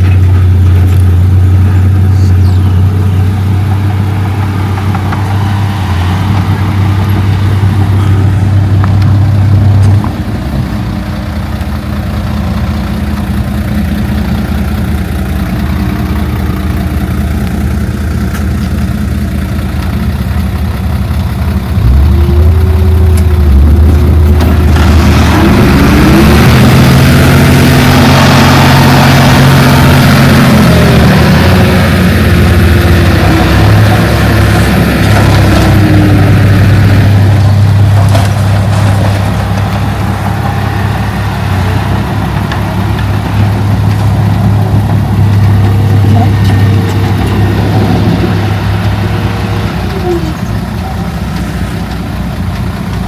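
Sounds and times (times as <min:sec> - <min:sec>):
heavy machinery diesel engine revving: 0:00.0 - 0:53.0.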